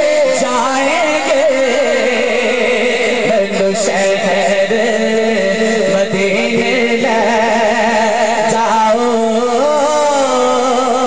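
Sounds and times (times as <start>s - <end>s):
man singing devotional song: 0.0s - 11.0s
steady drone: 0.0s - 11.0s.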